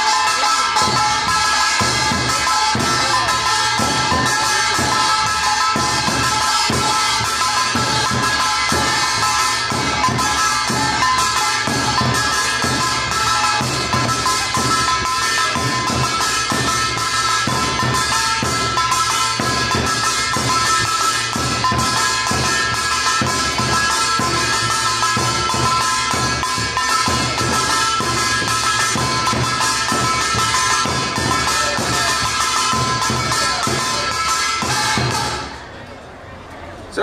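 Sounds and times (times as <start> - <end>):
ringing tones: 0.0 - 35.7
folk drums playing fast rhythm: 0.0 - 35.8.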